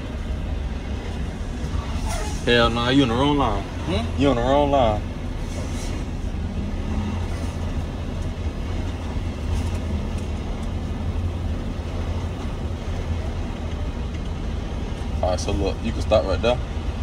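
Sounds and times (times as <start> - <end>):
diesel engine running low rumble: 0.0 - 17.0.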